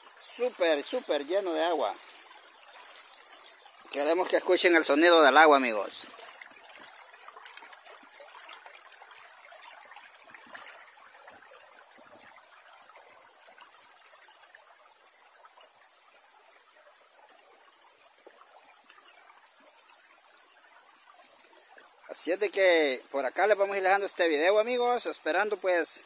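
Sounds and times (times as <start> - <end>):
river water trickling over rocks: 0.0 - 26.0.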